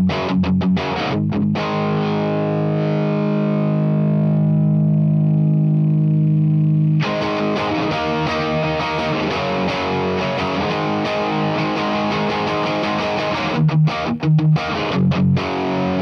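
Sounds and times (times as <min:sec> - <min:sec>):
overdriven electric guitar chords: 0:00.0 - 0:16.0.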